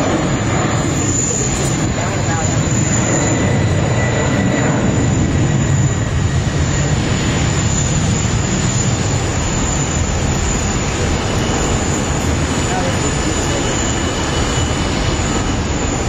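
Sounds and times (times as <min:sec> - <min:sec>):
aircraft rumble with high whine: 0:00.0 - 0:16.0.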